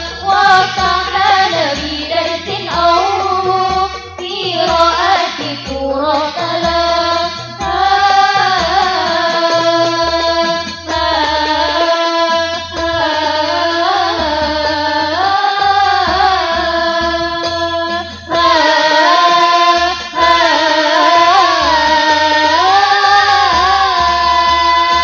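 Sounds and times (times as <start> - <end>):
frame drums beating: 0.0 - 25.0
girls singing through microphones: 0.0 - 25.0.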